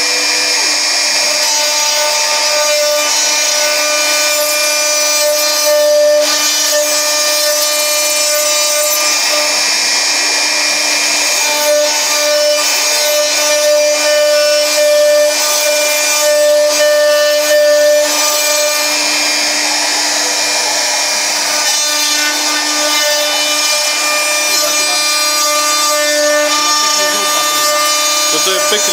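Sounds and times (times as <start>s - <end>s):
rasping wood cutting: 0.0s - 28.9s
router whine: 0.0s - 28.9s.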